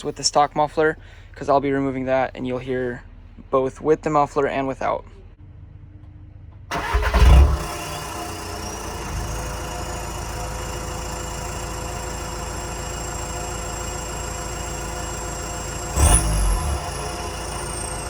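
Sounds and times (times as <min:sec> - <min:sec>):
diesel engine cranking and idling: 0:00.0 - 0:18.0.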